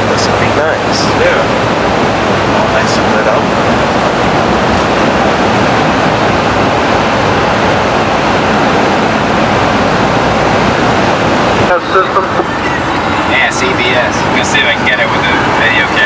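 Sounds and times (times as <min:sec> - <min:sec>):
car road roar on wet road: 0:00.0 - 0:16.0.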